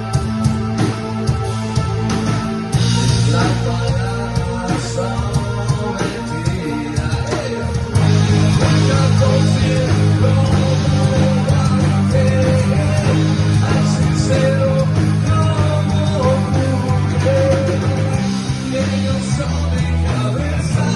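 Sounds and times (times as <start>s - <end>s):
rock band playing: 0.0s - 20.9s.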